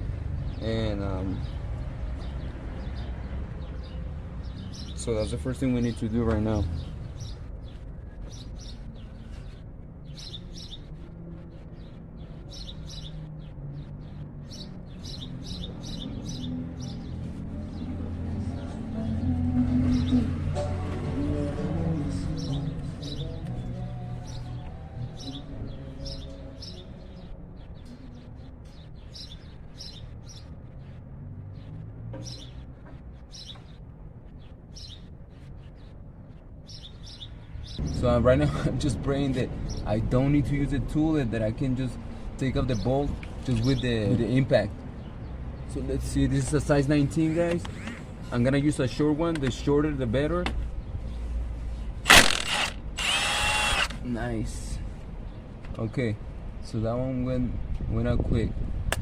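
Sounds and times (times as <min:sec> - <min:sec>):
small birds chirping: 0:00.0 - 0:20.6, 0:21.2 - 0:58.8.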